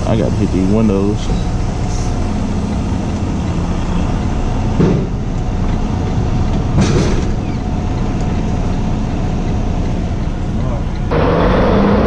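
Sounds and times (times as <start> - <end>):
diesel truck engine idling: 0.0 - 11.2.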